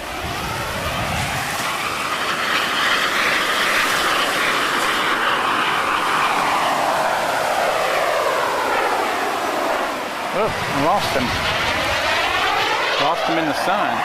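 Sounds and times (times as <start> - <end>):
jet aircraft passing overhead: 0.0 - 14.0.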